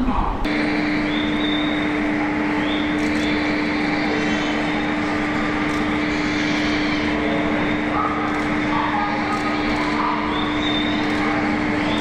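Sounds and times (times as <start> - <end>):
electric train rumbling: 0.0 - 12.0
steady droning tone: 0.4 - 12.0.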